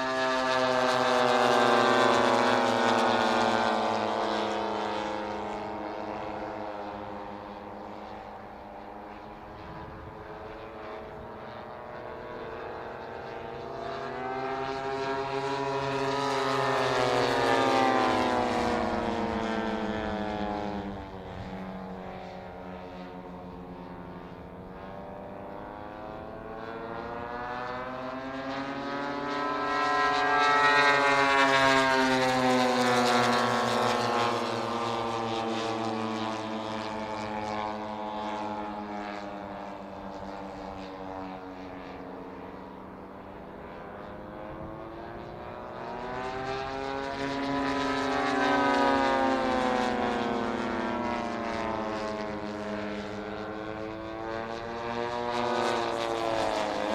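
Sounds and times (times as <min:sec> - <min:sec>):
model plane engines droning: 0:00.0 - 0:56.9.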